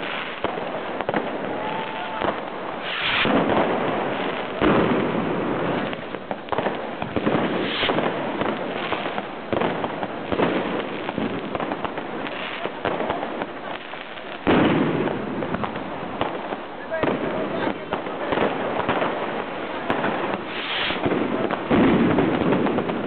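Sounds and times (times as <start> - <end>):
fireworks and firecrackers banging: 0.0 - 23.0
loud firework blasts: 0.0 - 23.0.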